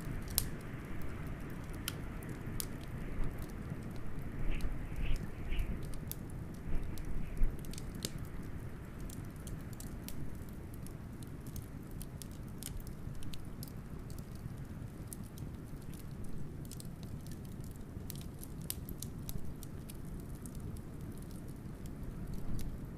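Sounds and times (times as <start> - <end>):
low rumble of blizzard wind: 0.0 - 22.9
wood fire crackling and popping: 0.0 - 22.9.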